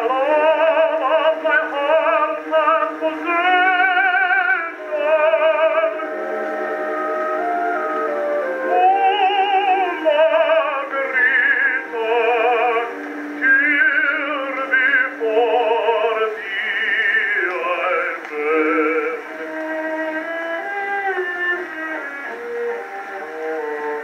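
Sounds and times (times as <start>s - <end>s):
operatic tenor singing: 0.0s - 24.0s
small orchestra playing: 0.0s - 24.0s.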